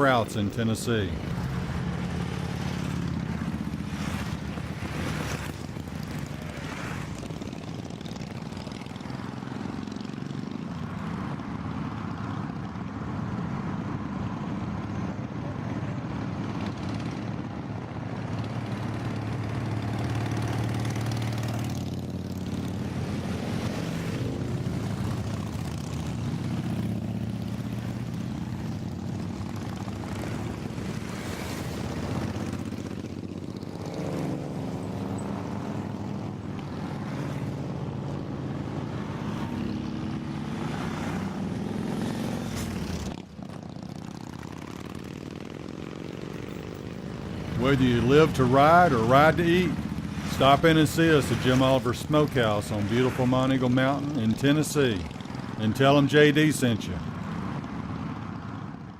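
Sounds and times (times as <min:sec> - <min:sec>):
motorcycles riding past: 0:00.0 - 0:58.9.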